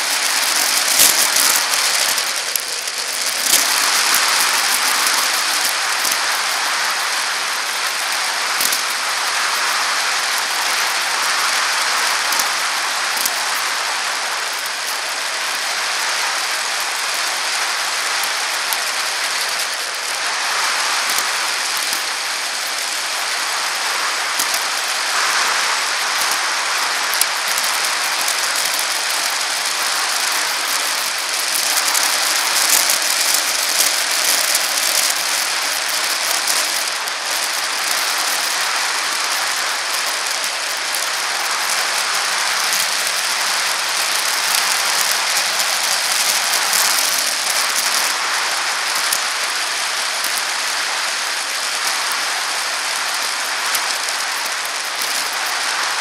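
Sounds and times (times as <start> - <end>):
bicycle tyres rolling on pavement: 0.0 - 56.0
bike clicks and rattles: 0.0 - 56.0.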